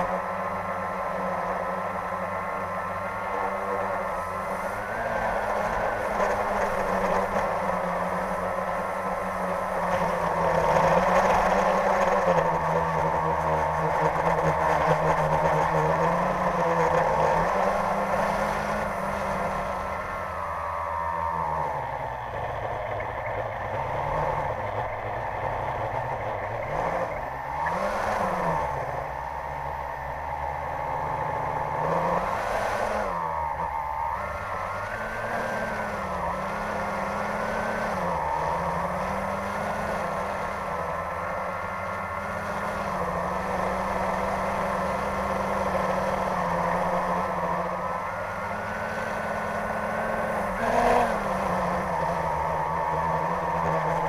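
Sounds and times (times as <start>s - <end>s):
drone propellers whirring: 0.0s - 54.0s.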